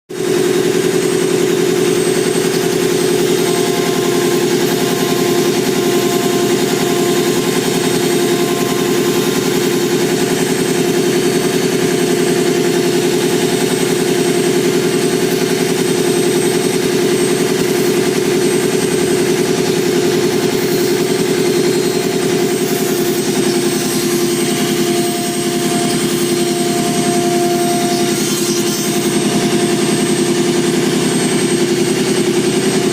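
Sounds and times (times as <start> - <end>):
cnc router carving: 0.1 - 32.9.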